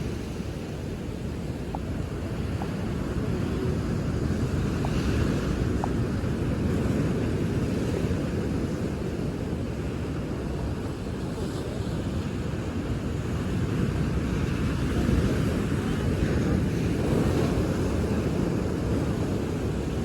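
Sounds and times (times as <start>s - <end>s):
sea waves on shore: 0.0s - 20.0s
wind buffeting microphone: 0.0s - 20.0s.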